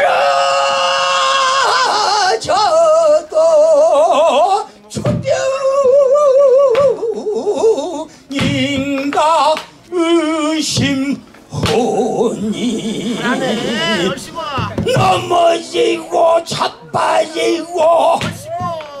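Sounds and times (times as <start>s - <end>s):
man singing with rough vibrato: 0.0s - 19.0s.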